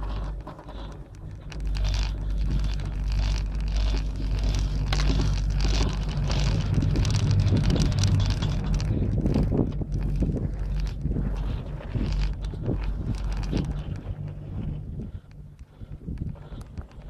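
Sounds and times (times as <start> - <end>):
chairlift rumble: 0.0 - 17.0
wind buffeting microphone: 0.0 - 17.0.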